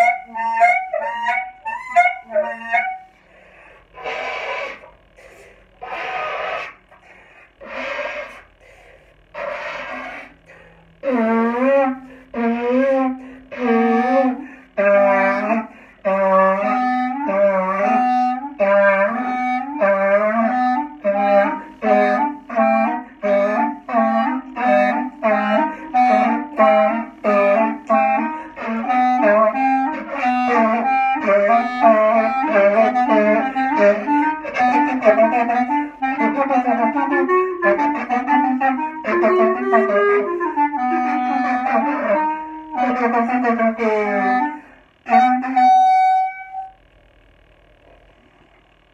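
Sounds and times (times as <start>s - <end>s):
clarinet duet: 0.0s - 3.2s, 4.0s - 6.9s, 9.3s - 46.8s.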